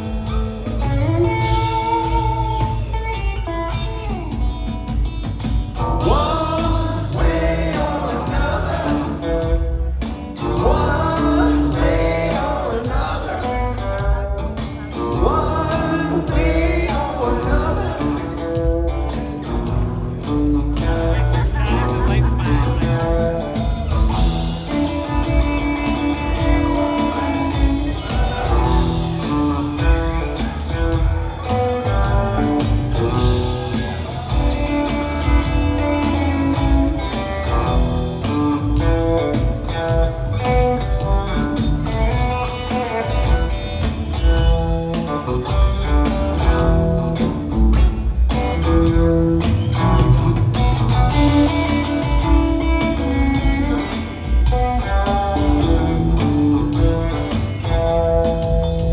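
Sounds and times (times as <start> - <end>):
bass guitar: 0.0 - 58.9
drums: 0.0 - 58.9
electric guitar melody: 0.0 - 58.9.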